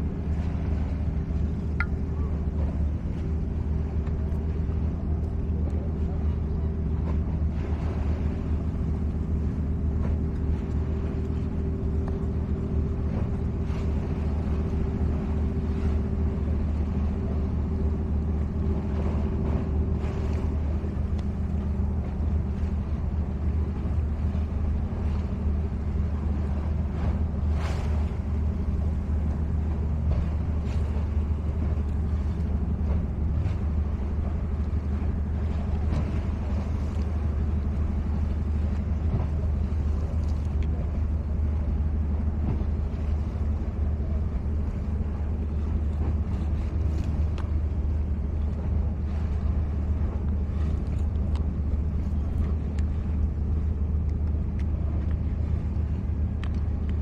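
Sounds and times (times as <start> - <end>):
boat engine rumbling: 0.0 - 57.0
droning hum: 0.0 - 57.0.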